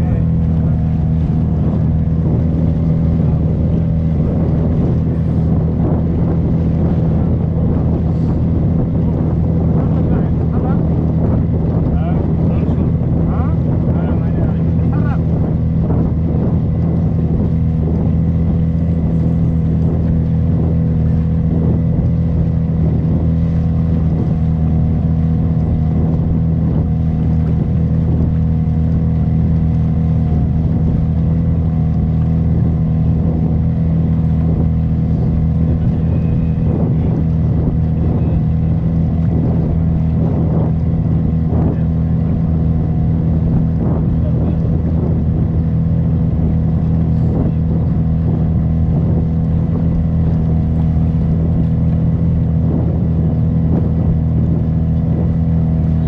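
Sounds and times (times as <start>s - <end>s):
boat motor droning: 0.0s - 56.0s.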